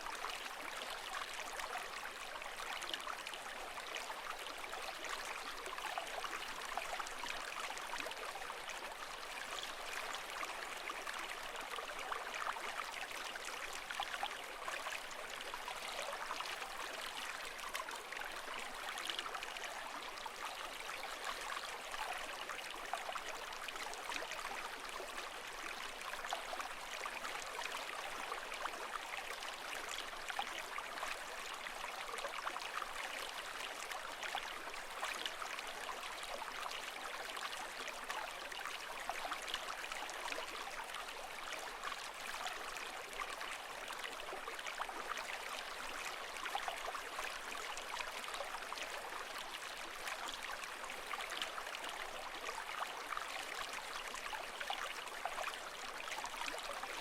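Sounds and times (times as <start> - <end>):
water babbling and trickling: 0.0 - 57.0.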